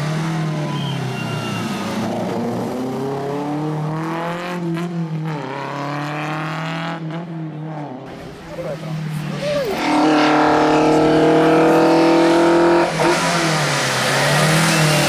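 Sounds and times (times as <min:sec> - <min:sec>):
car engine revving under full throttle: 0:01.8 - 0:08.5, 0:09.2 - 0:15.0.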